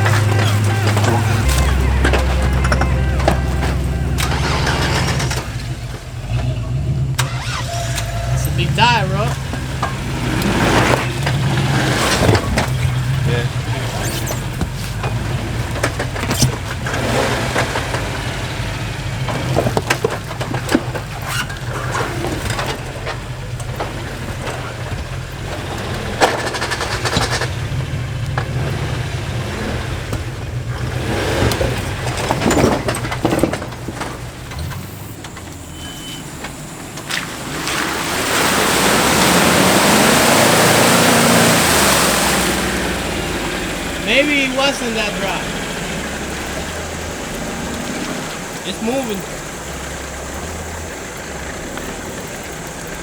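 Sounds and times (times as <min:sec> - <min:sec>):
mud splashes: 0:00.0 - 0:34.9, 0:36.6 - 0:53.0
engine running under load: 0:00.0 - 0:53.0.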